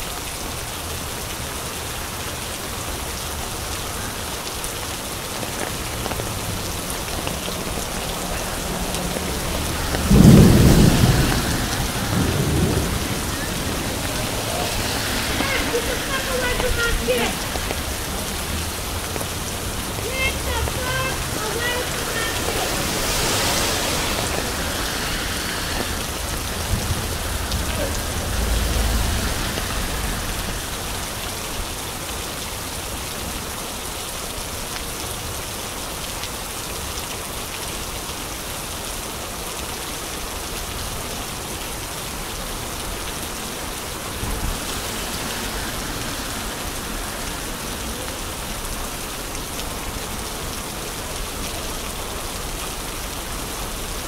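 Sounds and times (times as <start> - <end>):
rain on a wet street: 0.0 - 54.0.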